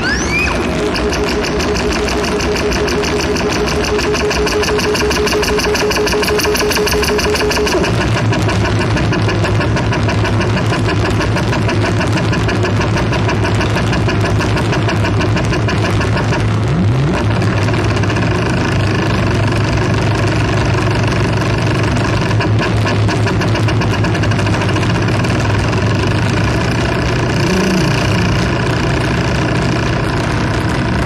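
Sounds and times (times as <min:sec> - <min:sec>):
pulsing machine-like drone: 0:00.0 - 0:31.0.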